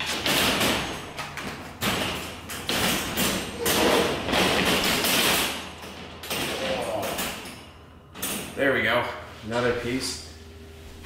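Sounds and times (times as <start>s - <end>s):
metal wire panels clanking: 0.0s - 8.9s.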